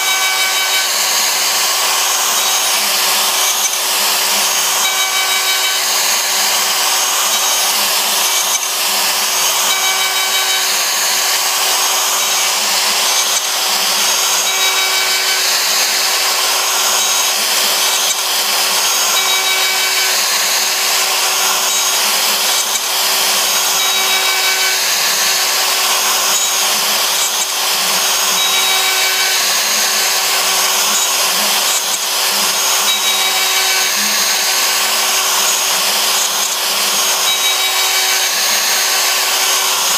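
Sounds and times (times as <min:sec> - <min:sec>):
router bit cutting plywood: 0:00.0 - 0:39.9
router spindle whine: 0:00.0 - 0:39.9.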